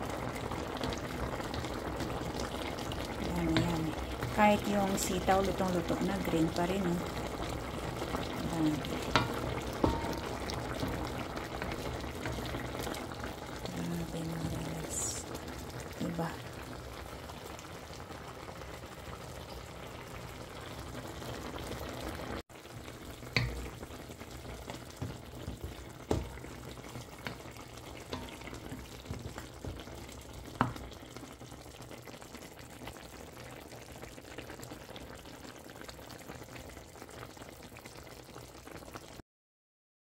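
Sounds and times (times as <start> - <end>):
broth bubbling in a wok: 0.0 - 39.2.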